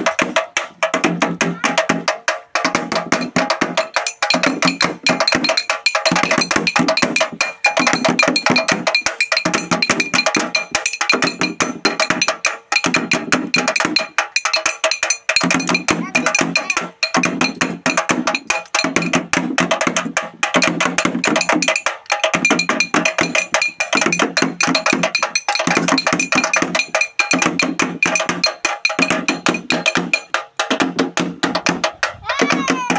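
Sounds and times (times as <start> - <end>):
music with fast wooden percussion: 0.0 - 32.9.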